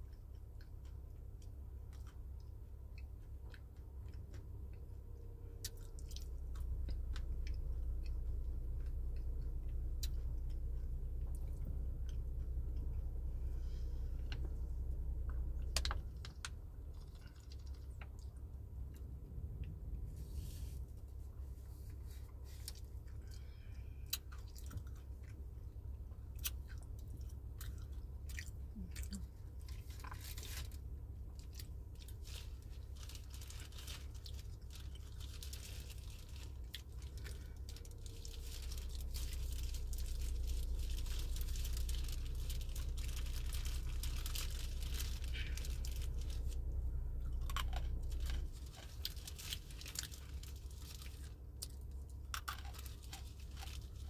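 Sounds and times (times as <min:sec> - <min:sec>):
person chewing crunchy food: 0:00.0 - 0:19.8, 0:21.8 - 0:54.0
steady low hum: 0:00.0 - 0:54.0.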